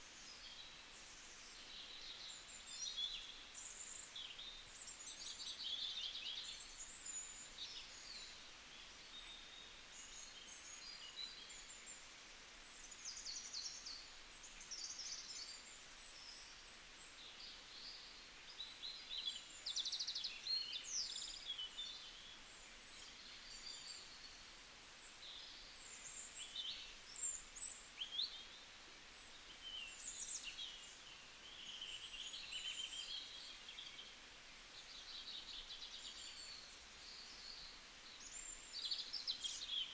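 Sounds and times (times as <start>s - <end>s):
forest ambient hiss: 0.0s - 39.9s
songbirds chirping and trilling: 0.0s - 39.9s.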